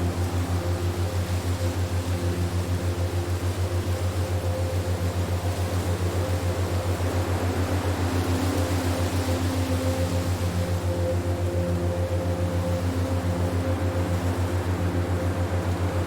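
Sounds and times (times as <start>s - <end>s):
low pulsing hum: 0.0s - 16.0s
wind-like hiss: 0.0s - 16.0s.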